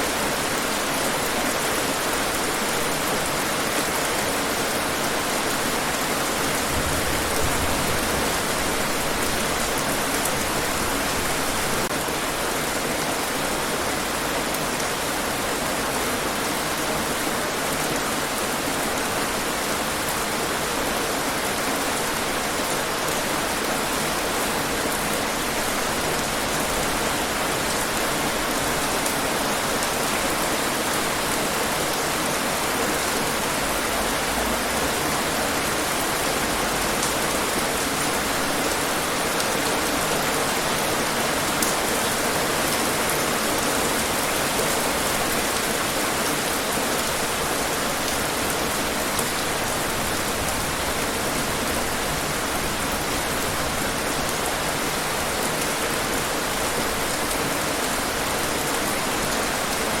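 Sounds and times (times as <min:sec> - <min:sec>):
rain on hard surfaces: 0:00.0 - 1:00.0.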